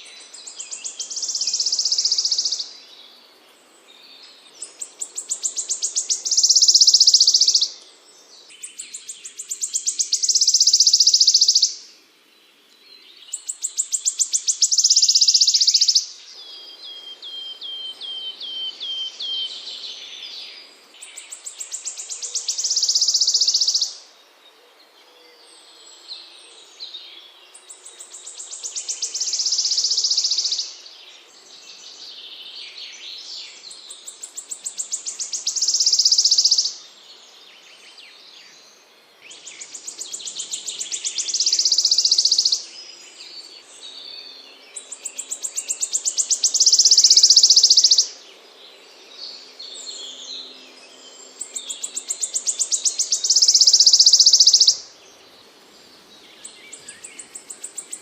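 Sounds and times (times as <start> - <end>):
soft bird chirps: 0.0 - 11.8, 12.6 - 24.0, 25.2 - 58.0
songbird trilling song: 0.0 - 58.0.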